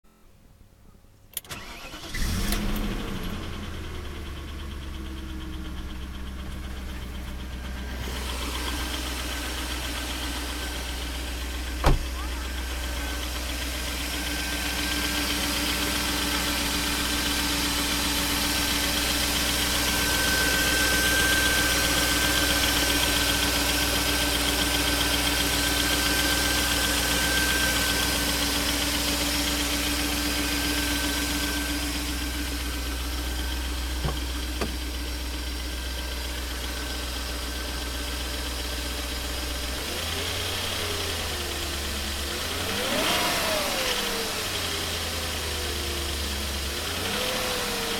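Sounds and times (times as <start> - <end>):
engine revving: 1.6 - 4.2, 6.5 - 34.8, 39.1 - 47.9
car engine idling: 1.6 - 47.9.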